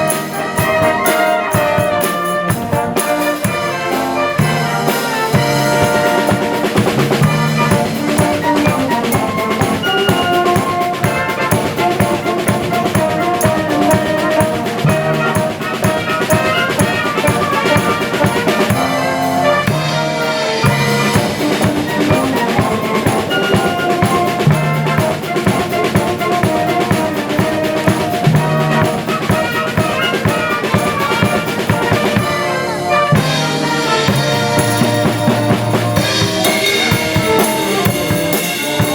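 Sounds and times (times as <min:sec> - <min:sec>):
brass band playing upbeat music: 0:00.0 - 0:38.9
steady drum beat: 0:00.0 - 0:38.9
trumpets: 0:00.0 - 0:38.9.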